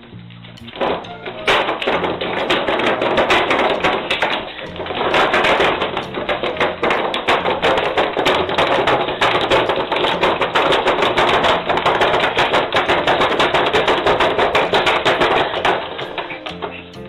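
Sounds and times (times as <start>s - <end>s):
rapid clattering taps: 0.6s - 17.0s.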